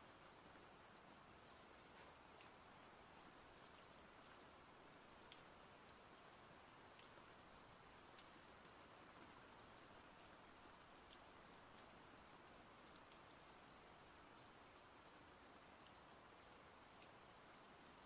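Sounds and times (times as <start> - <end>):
faint rain hiss: 0.0 - 18.0.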